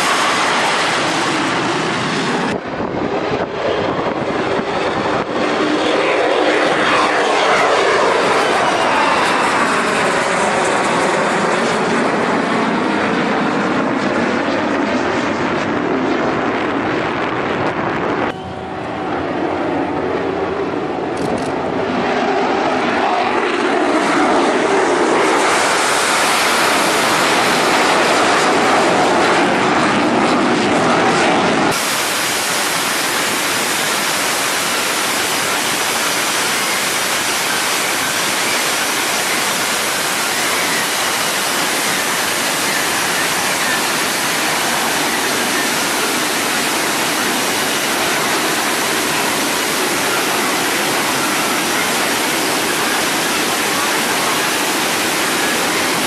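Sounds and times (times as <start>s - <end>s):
jet aircraft engine noise: 0.0s - 56.0s.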